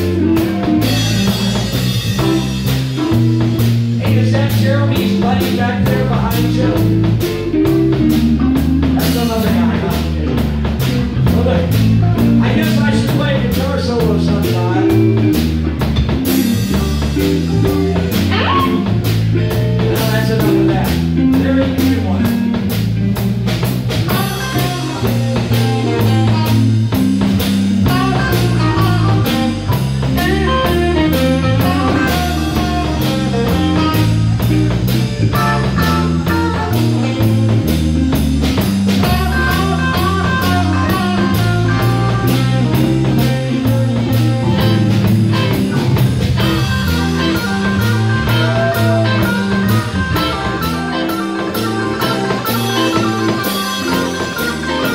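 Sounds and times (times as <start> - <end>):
drum kit: 0.0 - 54.9
electric guitars: 0.0 - 54.9
walking electric bass: 0.0 - 54.9.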